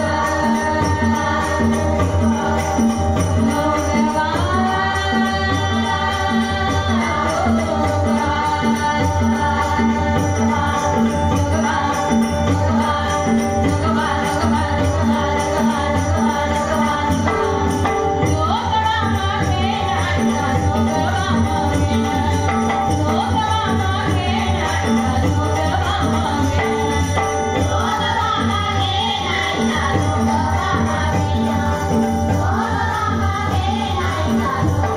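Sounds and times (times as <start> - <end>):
rhythmic drum beat: 0.0 - 34.9
women singing together: 0.0 - 34.9.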